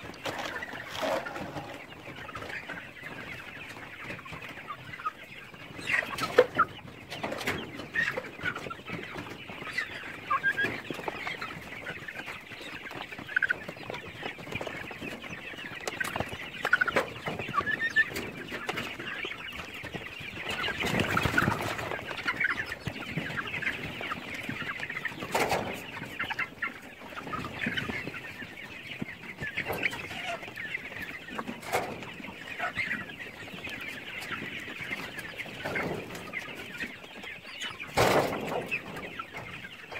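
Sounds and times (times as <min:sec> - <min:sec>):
young chickens clucking: 0:00.0 - 0:39.9.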